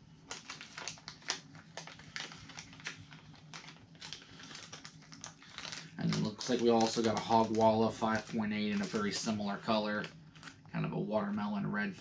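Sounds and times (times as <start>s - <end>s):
low steady hum: 0.0s - 12.0s
plastic packaging crinkling: 0.2s - 10.7s.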